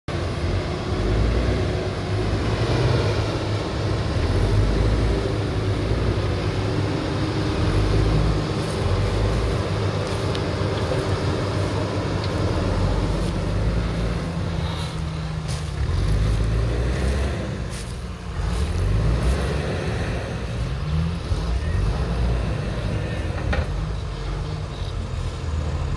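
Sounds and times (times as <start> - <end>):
diesel truck engines under load: 0.1 - 25.9.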